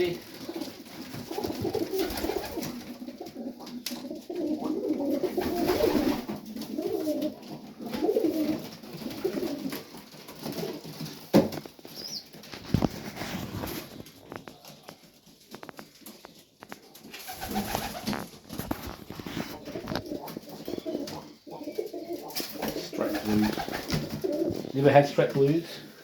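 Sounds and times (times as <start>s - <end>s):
pigeons cooing: 0.0s - 11.0s, 15.6s - 25.6s.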